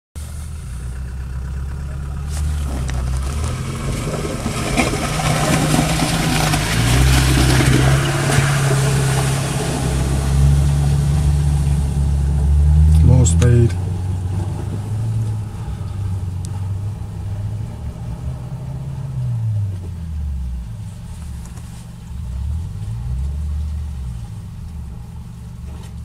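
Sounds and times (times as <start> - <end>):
engine revving with loud exhaust: 0.2 - 26.0.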